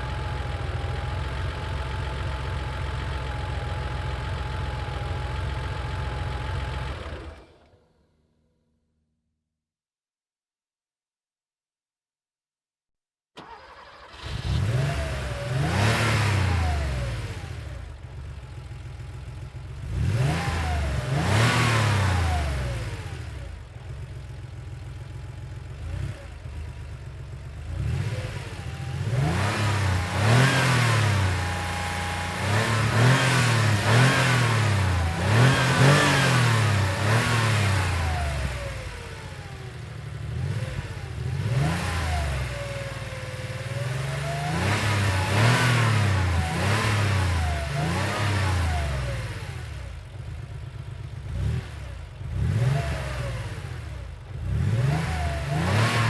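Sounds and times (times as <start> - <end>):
car engine idling and revving: 0.0 - 8.2, 13.4 - 56.0.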